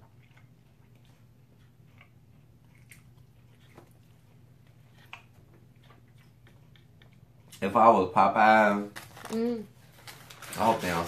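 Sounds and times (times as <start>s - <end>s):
faint chewing of crispy food: 0.0s - 11.0s
low steady hum: 0.0s - 11.0s.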